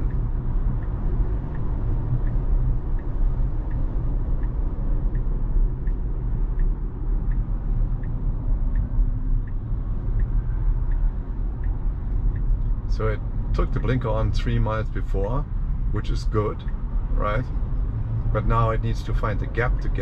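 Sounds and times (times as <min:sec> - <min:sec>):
car turn signal ticking: 0:00.0 - 0:20.0
road rumble inside car: 0:00.0 - 0:20.0.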